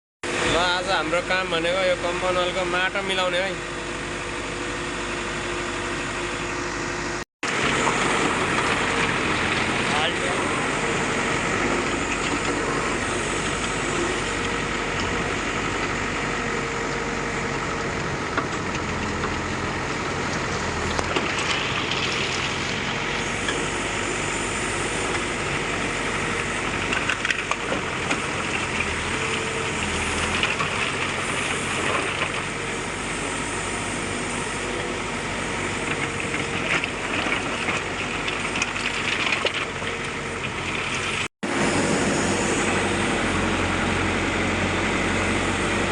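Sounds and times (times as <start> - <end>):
diesel engine running: 0.2 - 45.9.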